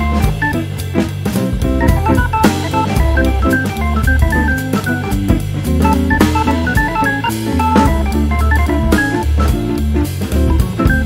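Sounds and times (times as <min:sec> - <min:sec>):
drum hits: 0:00.0 - 0:11.0
organ-like keyboard melody: 0:00.0 - 0:11.0
steady bass line: 0:00.0 - 0:11.0.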